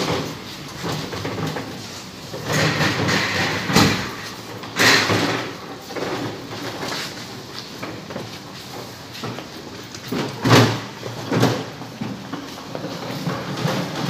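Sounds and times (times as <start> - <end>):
metal trolley rattling and clunking: 0.0 - 14.0.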